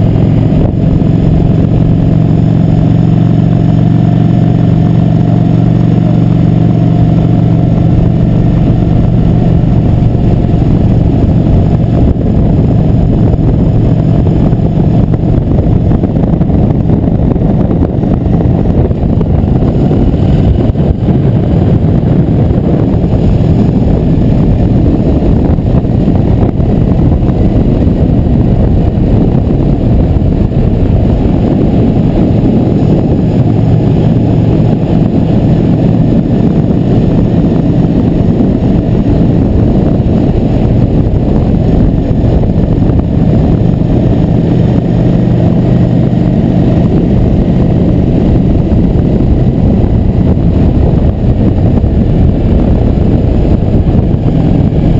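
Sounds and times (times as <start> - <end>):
motorcycle engine running: 0.0 - 54.9
wind rushing over microphone: 0.0 - 54.9.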